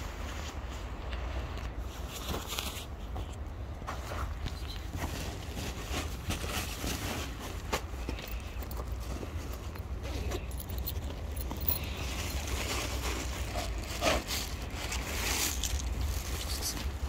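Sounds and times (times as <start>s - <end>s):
fabric bag rustling and scraping: 1.8s - 17.0s.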